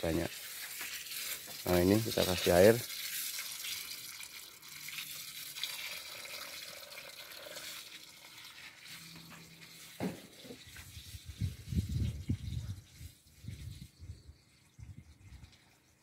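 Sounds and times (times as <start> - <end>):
water from hose hissing: 0.0 - 14.0.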